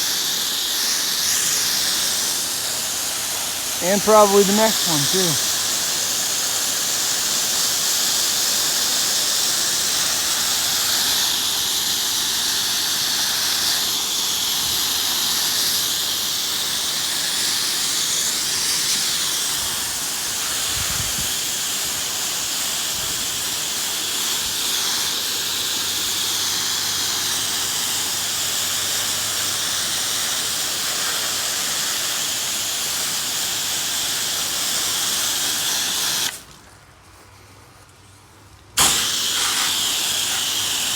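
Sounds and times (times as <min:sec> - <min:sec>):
pressure washer spray hissing: 0:00.0 - 0:36.5, 0:38.8 - 0:40.9.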